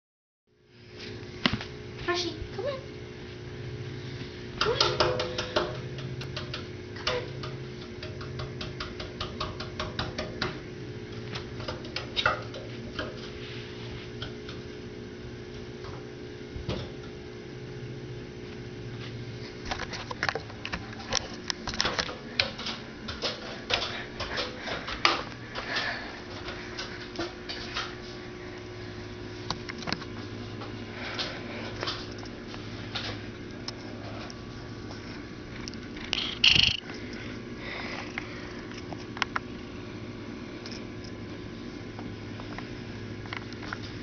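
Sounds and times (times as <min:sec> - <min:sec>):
steady low hum: 0:00.5 - 0:44.0.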